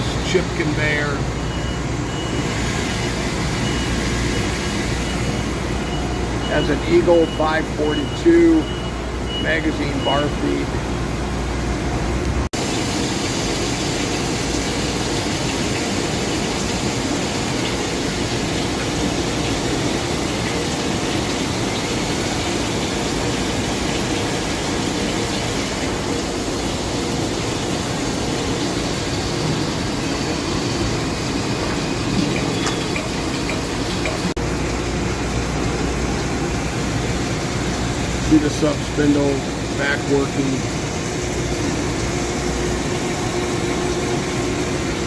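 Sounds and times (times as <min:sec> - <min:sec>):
coolant spraying: 0:00.0 - 0:08.7, 0:12.6 - 0:45.0.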